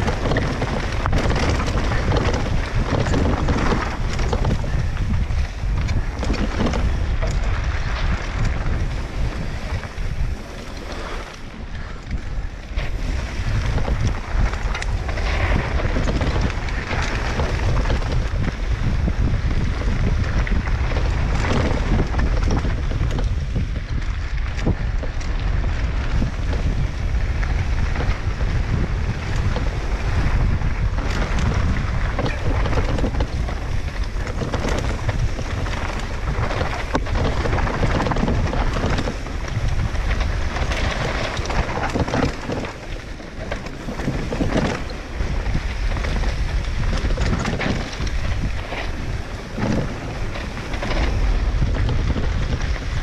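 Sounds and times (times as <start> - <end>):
bike rattling: 0.0 - 53.0
tyres rumbling on rough trail: 0.0 - 53.0
wind buffeting microphone: 0.0 - 53.0.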